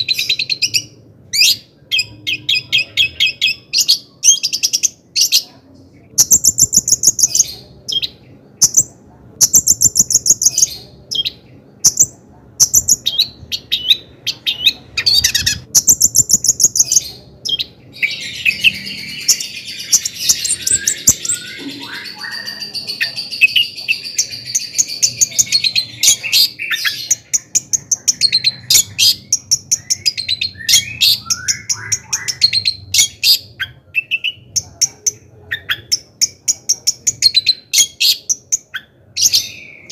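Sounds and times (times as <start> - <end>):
bird warbling chatter: 6.2 - 39.9.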